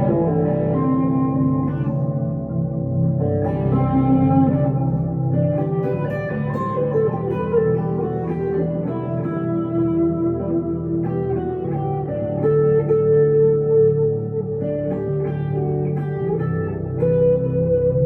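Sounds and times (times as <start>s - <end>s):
electric guitar chords and notes: 0.0s - 18.0s.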